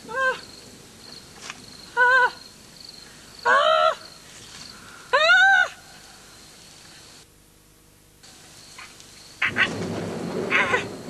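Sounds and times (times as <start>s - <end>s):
crickets chirping: 0.0s - 7.3s, 8.2s - 11.0s.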